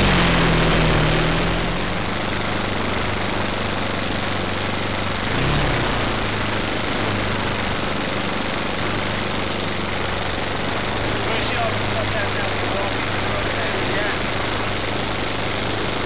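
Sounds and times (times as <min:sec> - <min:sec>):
model aircraft engine idling: 0:00.0 - 0:16.0.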